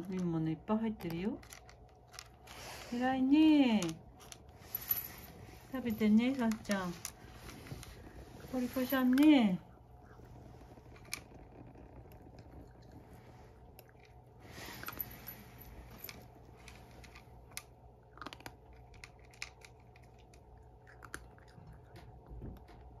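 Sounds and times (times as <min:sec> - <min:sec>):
cat crunching dry kibble: 0:00.0 - 0:02.8, 0:03.6 - 0:23.0.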